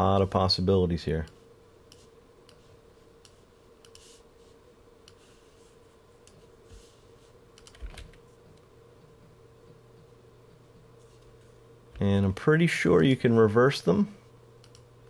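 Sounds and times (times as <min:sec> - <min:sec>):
steady faint hum: 0:00.0 - 0:15.0.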